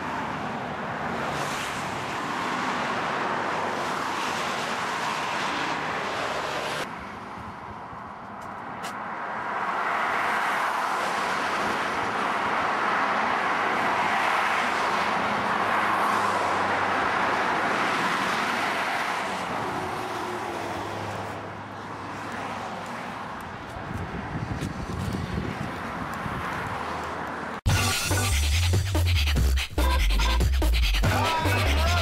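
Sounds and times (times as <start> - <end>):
motorway traffic rushing past: 0.0 - 27.6.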